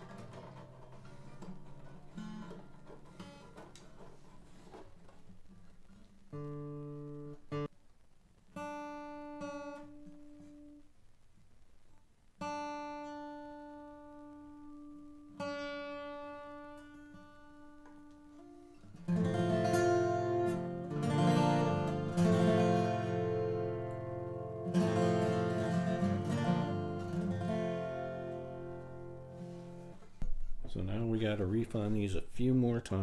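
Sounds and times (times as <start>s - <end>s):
guitar chords strummed: 0.0s - 7.7s, 8.6s - 10.8s, 12.4s - 33.0s
guitar strings plucked: 0.0s - 7.7s, 12.5s - 33.0s.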